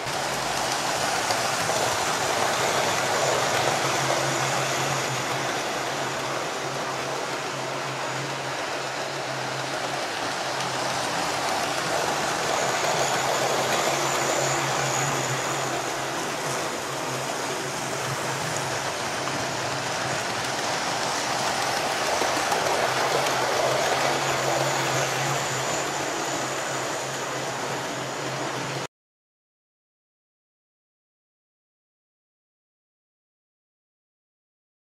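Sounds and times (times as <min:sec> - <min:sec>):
model train wheels on rail: 0:00.0 - 0:28.9.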